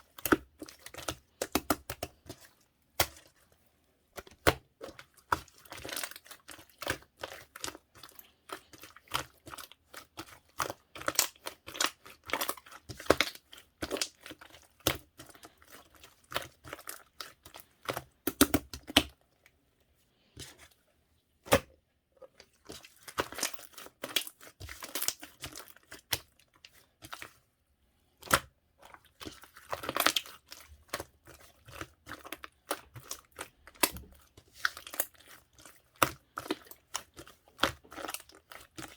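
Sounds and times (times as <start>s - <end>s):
slime squelching and crackling: 0.0s - 19.2s, 22.3s - 27.4s, 28.0s - 38.9s.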